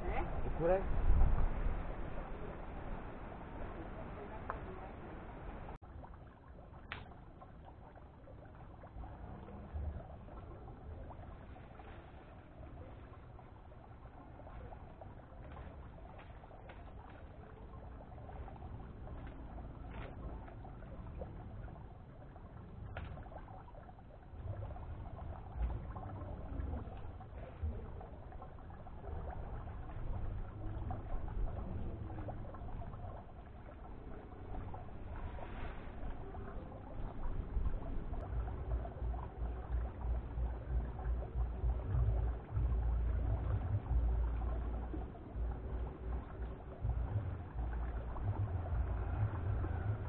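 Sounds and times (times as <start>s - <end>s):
low uneven rumble: 0.0s - 50.0s
water splashing into pond: 0.0s - 50.0s.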